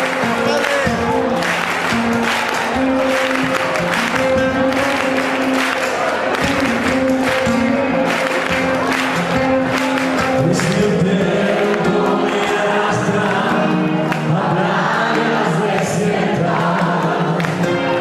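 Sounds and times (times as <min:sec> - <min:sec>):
crowd singing together: 0:00.0 - 0:18.0
live band playing: 0:00.0 - 0:18.0.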